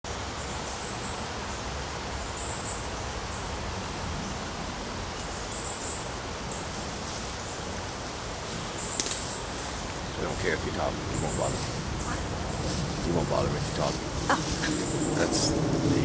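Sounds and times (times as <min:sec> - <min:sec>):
outdoor background hiss: 0:00.1 - 0:16.0.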